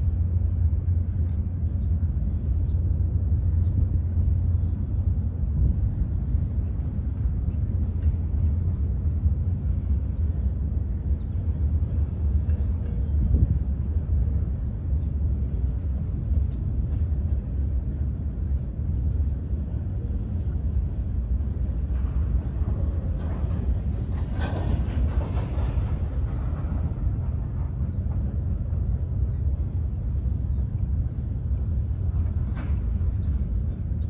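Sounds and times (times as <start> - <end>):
distant diesel locomotives rumbling: 0.0 - 34.0.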